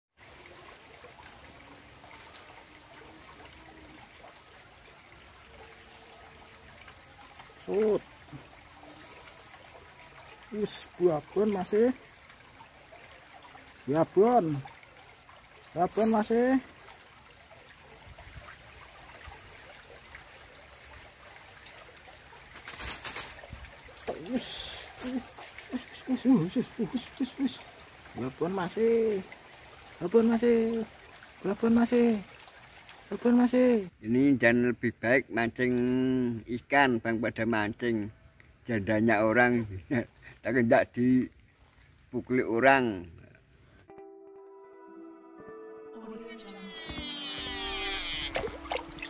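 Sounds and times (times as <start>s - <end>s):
stream trickling: 0.1s - 43.9s, 46.5s - 49.0s.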